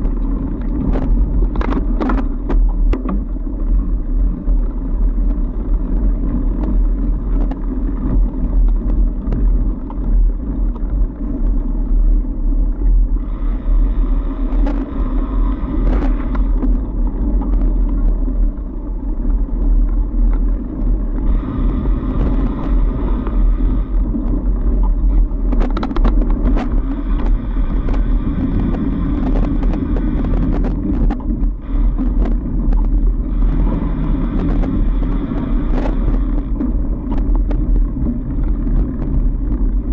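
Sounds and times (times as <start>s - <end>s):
bike rattling and clicking: 0.0s - 39.9s
bike tyres rumbling on snow: 0.0s - 39.9s.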